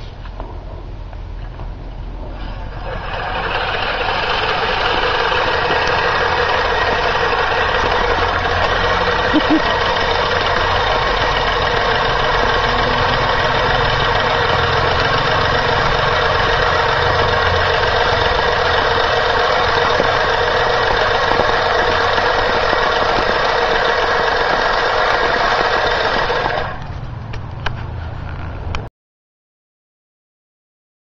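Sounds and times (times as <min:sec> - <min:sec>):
reel lawn mower whirring: 0:02.1 - 0:28.6.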